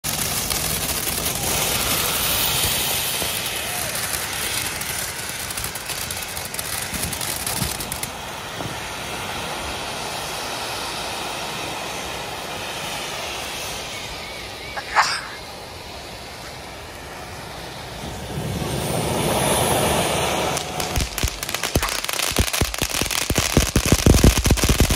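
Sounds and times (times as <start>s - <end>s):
fireworks crackling: 0.0s - 24.9s
fireworks hissing: 0.0s - 24.9s.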